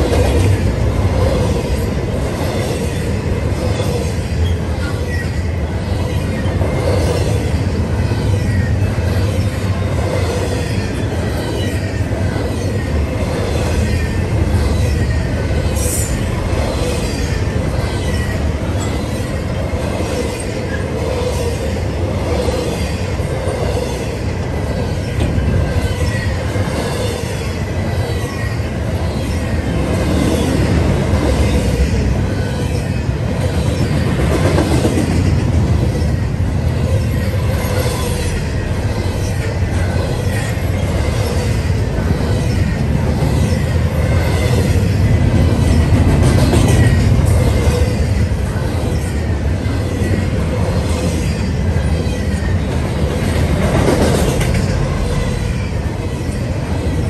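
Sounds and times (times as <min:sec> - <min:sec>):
freight train wheels rumbling on rails: 0:00.0 - 0:57.0
high whining from train wheels: 0:00.0 - 0:57.0.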